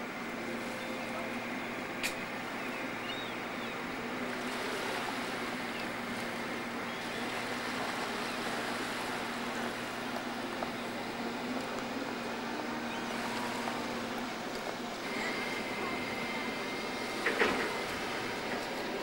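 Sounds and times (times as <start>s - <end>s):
ferry engine drone: 0.0s - 19.0s
rushing water and wind: 0.0s - 19.0s.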